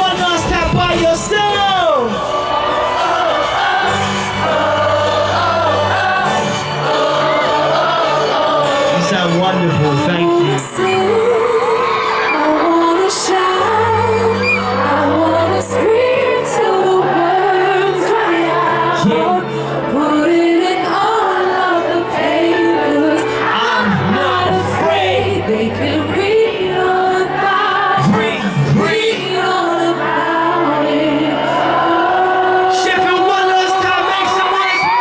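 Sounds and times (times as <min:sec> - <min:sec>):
pop song with singing: 0:00.0 - 0:35.0.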